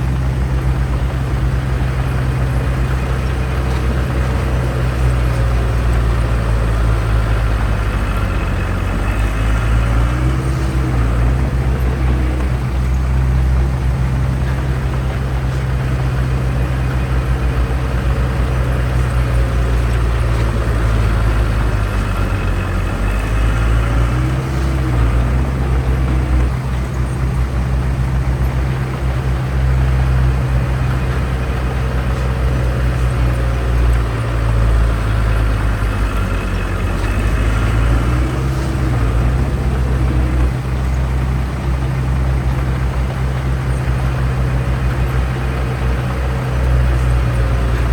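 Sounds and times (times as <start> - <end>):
construction equipment diesel engine: 0.0 - 47.9.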